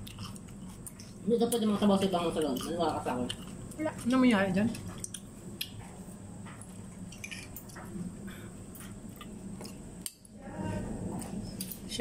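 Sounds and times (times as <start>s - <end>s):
chewing close to microphone: 0.0s - 10.2s.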